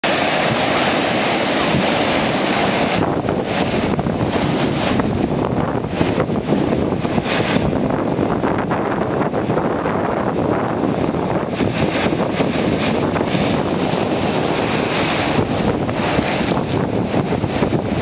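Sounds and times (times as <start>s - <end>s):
surf breaking over rocks: 0.0s - 18.0s
wind buffeting microphone: 0.0s - 18.0s.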